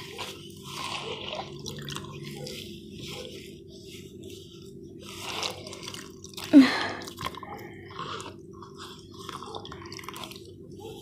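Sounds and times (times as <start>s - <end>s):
slime squelching by hand: 0.0s - 11.0s.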